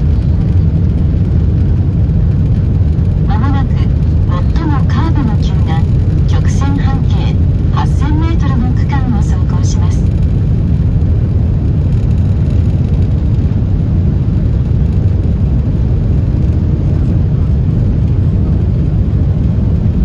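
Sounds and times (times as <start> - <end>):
train cabin low rumble: 0.0 - 20.0.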